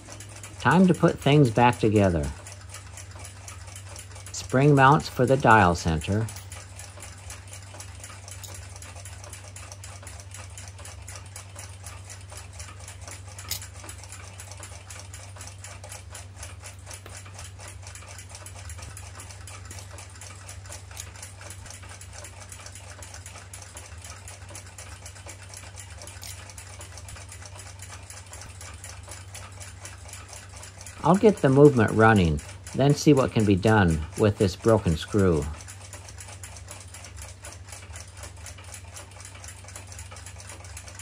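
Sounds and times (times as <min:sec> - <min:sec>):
clock ticking fast: 0:00.0 - 0:41.0
steady low hum: 0:00.0 - 0:41.0.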